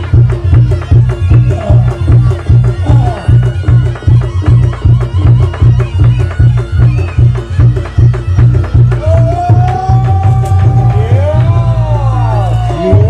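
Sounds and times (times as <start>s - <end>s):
gamelan drum and gong pulse: 0.0s - 13.0s.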